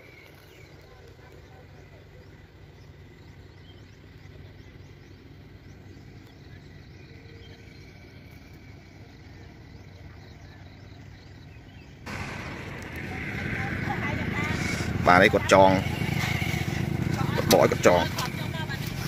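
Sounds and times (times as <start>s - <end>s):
low hum: 2.0s - 19.0s.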